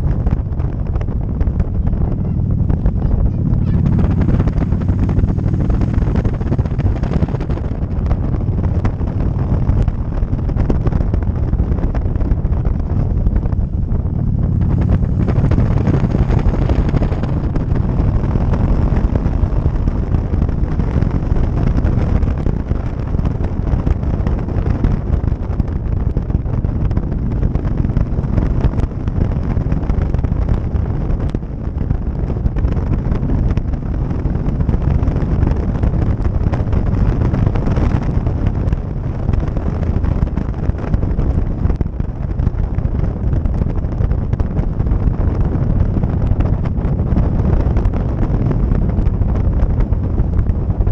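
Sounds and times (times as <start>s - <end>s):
motorcycle engine and road noise: 0.0s - 50.9s
wind buffeting microphone: 0.0s - 50.9s.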